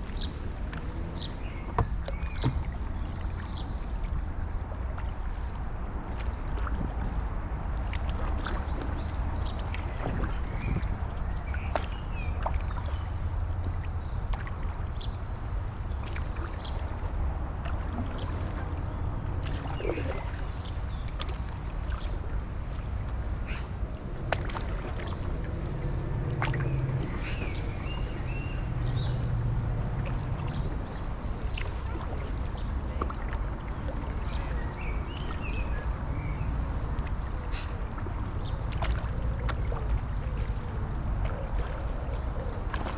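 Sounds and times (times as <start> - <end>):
paddle splashing in water: 0.0 - 42.9
wind rumble on microphone: 0.0 - 42.9.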